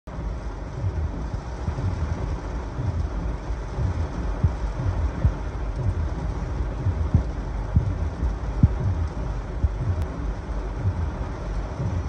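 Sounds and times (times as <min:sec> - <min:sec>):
gusty wind: 0:00.1 - 0:12.0
heavy rain on a car roof: 0:00.1 - 0:12.0
low thumps: 0:00.1 - 0:12.0.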